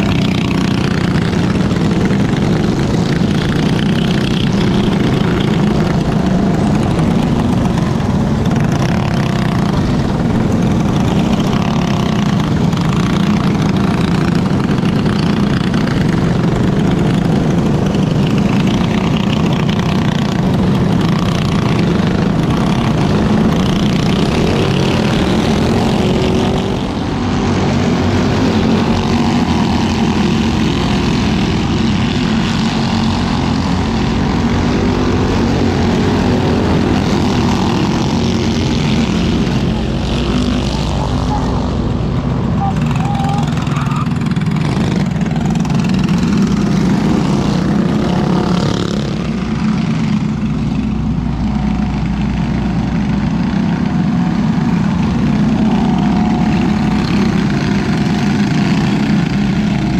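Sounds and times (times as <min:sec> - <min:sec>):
kart engine running hard: 0:00.0 - 0:59.9.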